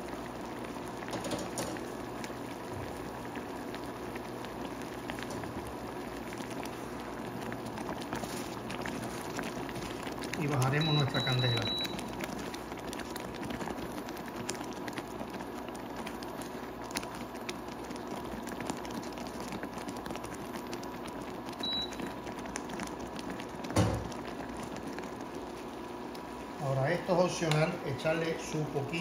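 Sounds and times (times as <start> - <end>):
jam bubbling in a pan: 0.0 - 29.0.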